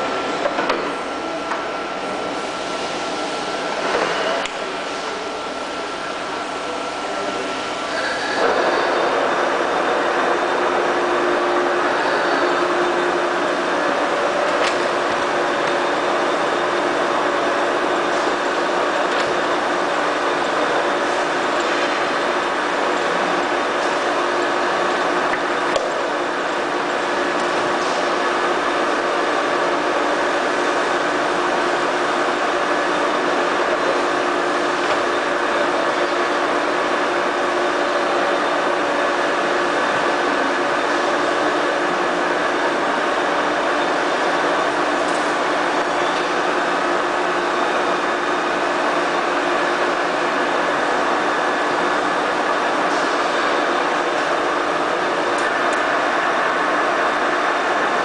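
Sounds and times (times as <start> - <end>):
lathe whirring: 0.0 - 58.0.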